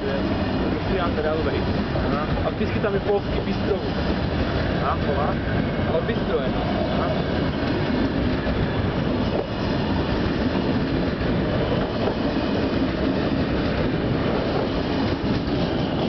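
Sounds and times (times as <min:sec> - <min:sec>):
train wheels rushing on rails: 0:00.0 - 0:16.0.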